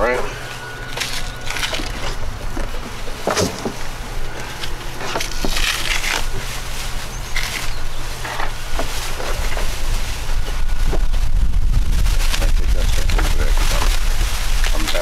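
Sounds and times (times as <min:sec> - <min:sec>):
low rumble: 0:00.0 - 0:15.0
plastic wrapping crinkling: 0:00.4 - 0:15.0.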